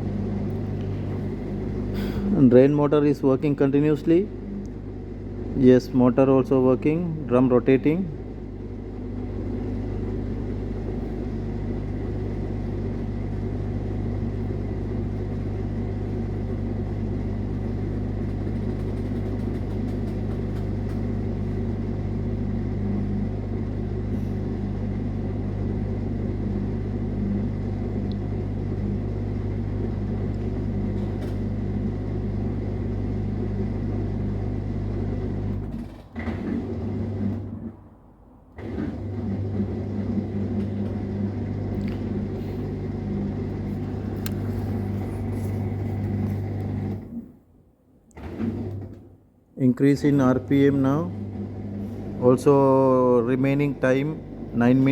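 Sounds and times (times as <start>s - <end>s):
washing machine spinning: 0.0s - 47.4s, 48.1s - 49.2s, 50.0s - 54.9s.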